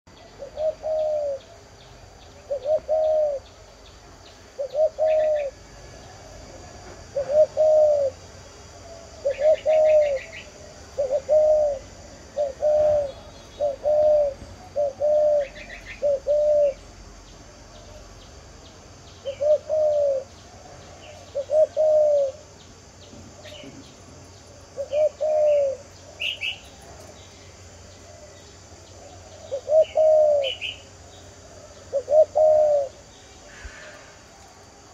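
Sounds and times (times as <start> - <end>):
faint small birds chirping: 0.1 - 34.9
dove cooing: 0.2 - 3.7, 4.5 - 16.9, 19.2 - 23.8, 24.5 - 34.2.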